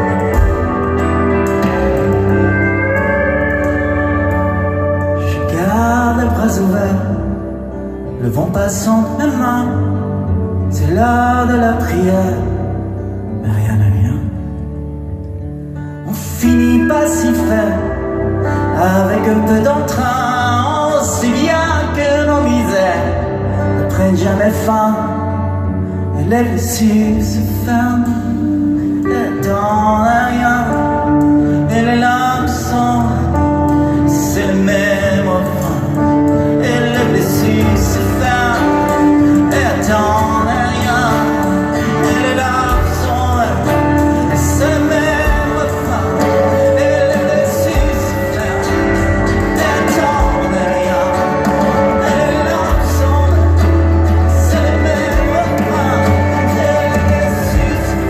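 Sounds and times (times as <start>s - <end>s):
live band playing slow song: 0.0s - 58.0s.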